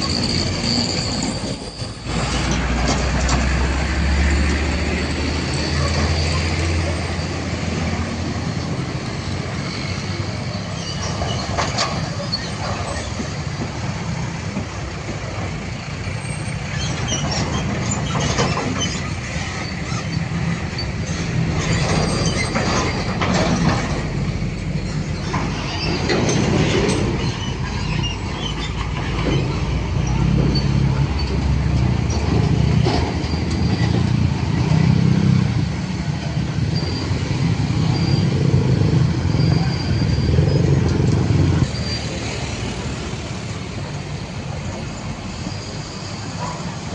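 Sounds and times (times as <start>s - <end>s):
wheels clicking over rails: 0.0s - 4.8s, 10.6s - 46.9s
train wheels rumbling: 0.0s - 46.9s.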